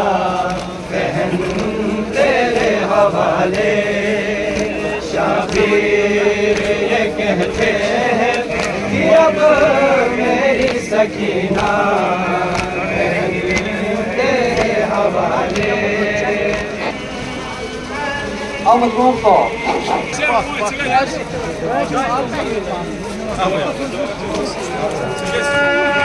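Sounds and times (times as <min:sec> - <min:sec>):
group of voices chanting: 0:00.0 - 0:21.8.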